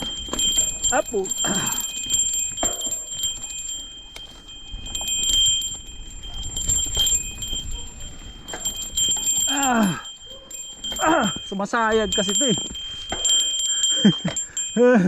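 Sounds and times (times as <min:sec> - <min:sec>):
mountain bike riding over trail: 0:00.0 - 0:13.7
rattles and clicks: 0:00.0 - 0:14.8
high-pitched ringing tone: 0:00.0 - 0:15.0.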